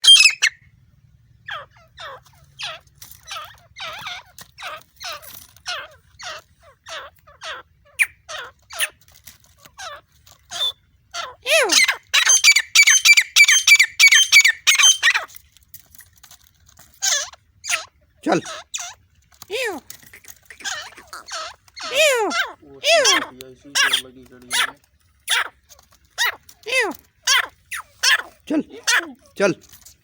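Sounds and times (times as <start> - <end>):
partridge calling: 0.0 - 0.7, 1.4 - 9.0, 9.7 - 15.3, 17.0 - 29.6.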